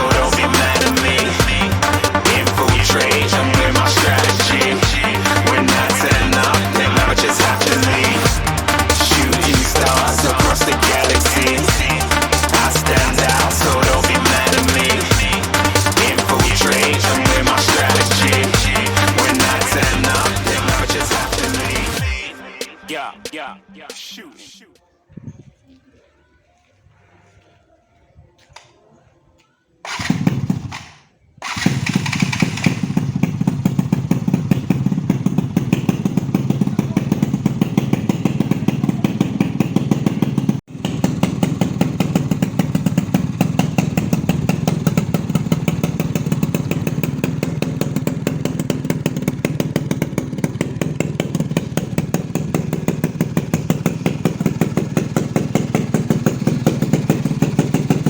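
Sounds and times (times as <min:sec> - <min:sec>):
motorcycle engine starting and running: 0:00.0 - 0:24.6, 0:29.9 - 0:58.0.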